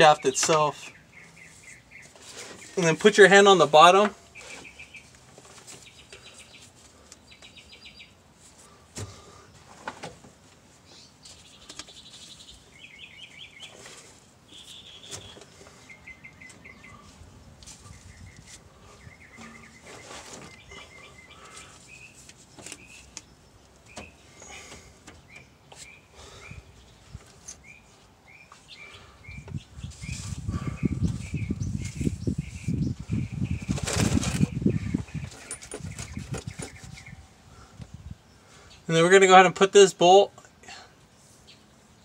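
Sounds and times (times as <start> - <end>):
birds chirping trills: 0.0 - 9.6, 10.8 - 40.3
rustle: 0.2 - 39.0, 40.5 - 42.0.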